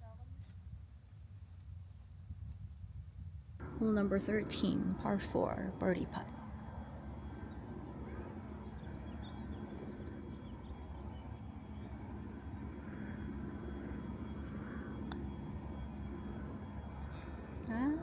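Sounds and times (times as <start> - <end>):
low outdoor rumble: 3.6 - 18.0.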